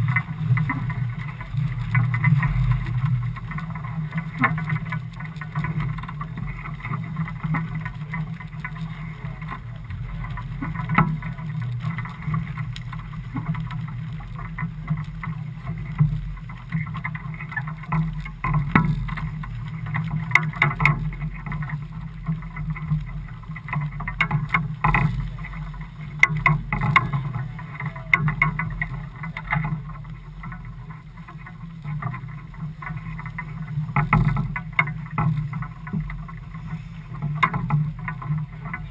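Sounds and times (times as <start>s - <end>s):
boat engine rumble: 0.0s - 38.9s
choppy water: 0.0s - 38.9s
wind: 0.0s - 38.9s.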